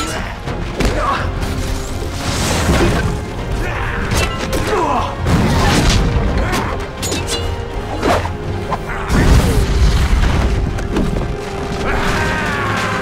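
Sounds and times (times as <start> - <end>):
film score music: 0.0 - 13.0.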